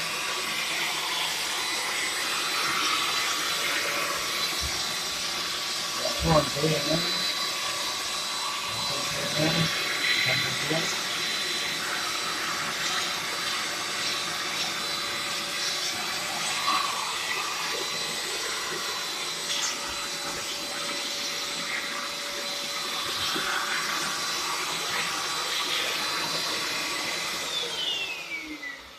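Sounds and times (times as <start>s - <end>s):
hand vacuum cleaner running: 0.0s - 28.9s.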